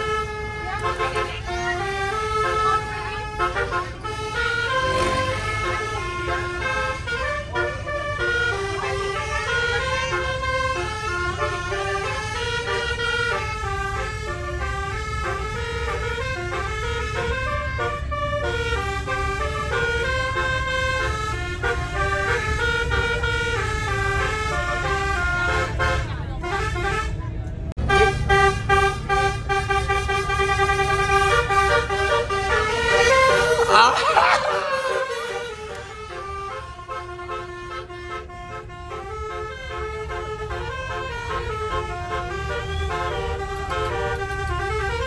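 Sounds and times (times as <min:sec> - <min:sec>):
bus horn playing a melody: 0:00.0 - 0:45.0.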